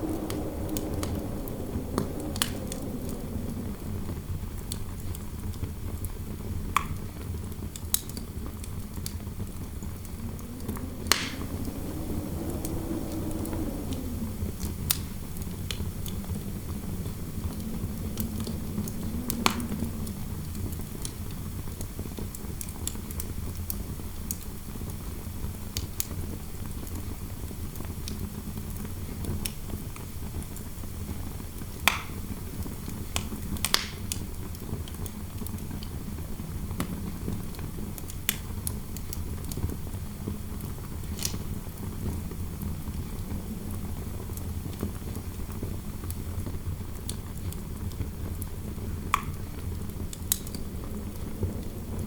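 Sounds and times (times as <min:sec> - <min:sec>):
fireplace crackling and popping: 0:00.0 - 0:23.7, 0:31.6 - 0:32.2, 0:33.1 - 0:39.7, 0:40.6 - 0:52.0
hollow wind howl: 0:00.0 - 0:25.4, 0:26.3 - 0:52.0
low interior wind noise: 0:00.0 - 0:52.0.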